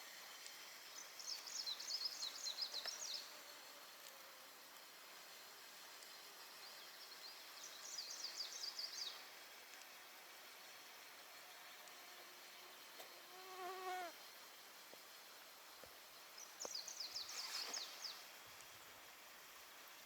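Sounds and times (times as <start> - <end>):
faint background hiss: 0.0 - 20.0.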